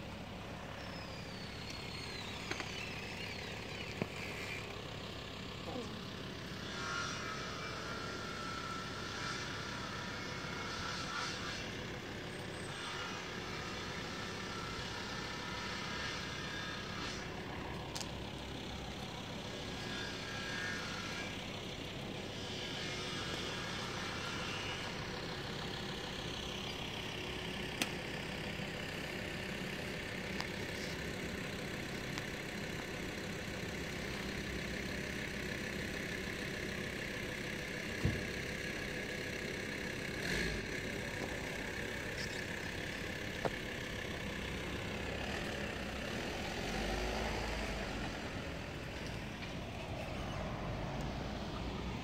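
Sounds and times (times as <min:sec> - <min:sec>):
engines idling: 0:00.0 - 0:52.0.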